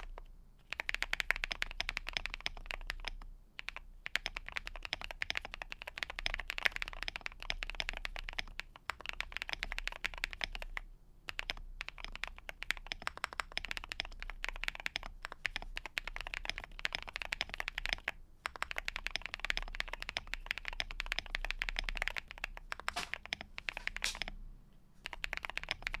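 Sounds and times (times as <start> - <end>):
mechanical keyboard typing: 0.0 - 24.4, 25.0 - 26.0.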